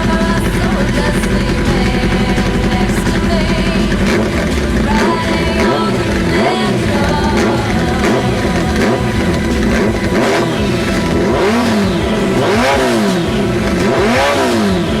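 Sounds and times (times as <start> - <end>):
background music with sustained tones: 0.0 - 15.0
motorcycle engine revving: 0.0 - 15.0.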